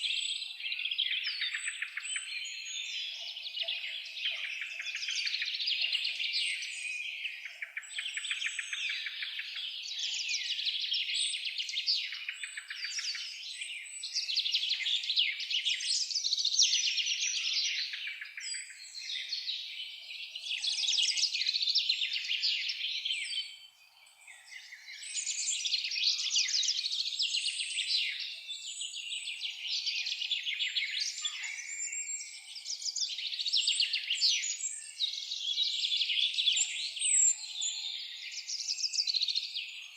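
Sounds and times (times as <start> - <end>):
chorus of songbirds singing: 0.0 - 39.9.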